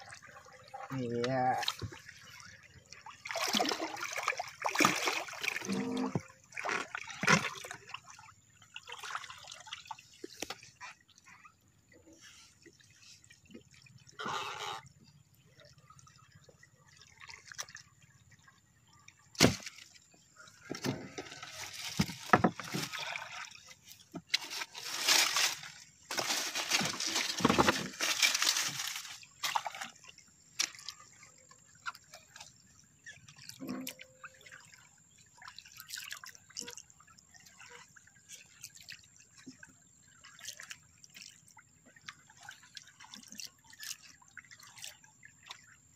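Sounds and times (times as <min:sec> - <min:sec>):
splashing and rustling: 0:00.0 - 0:18.1, 0:19.3 - 0:45.8
water sloshing and dripping: 0:00.0 - 0:45.9.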